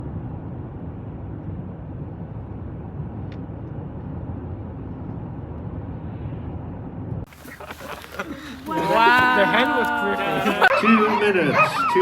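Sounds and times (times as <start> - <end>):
low outdoor rumble: 0.0 - 11.7.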